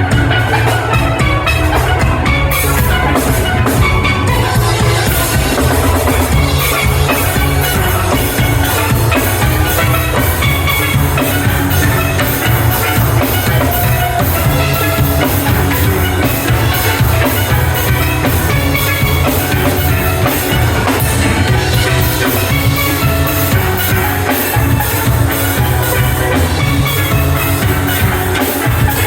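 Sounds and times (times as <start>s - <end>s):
drum kit beat: 0.0s - 29.0s
steel pans playing melody: 0.0s - 29.0s.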